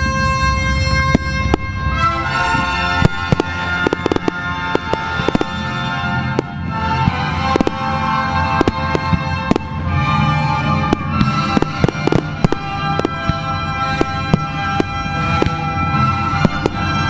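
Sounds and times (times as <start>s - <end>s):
music with long held notes: 0.0s - 17.0s
firework shells bursting: 1.0s - 17.0s.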